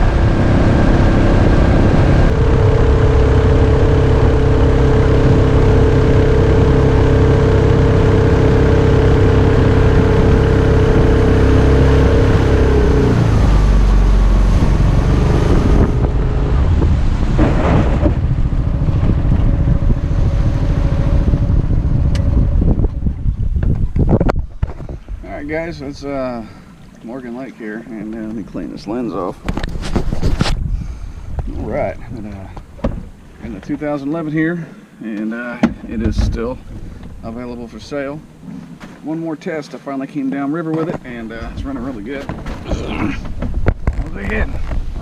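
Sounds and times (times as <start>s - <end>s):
boat engine running: 0.0s - 35.0s, 35.7s - 39.0s, 40.8s - 45.0s
water and wind noise: 0.0s - 45.0s.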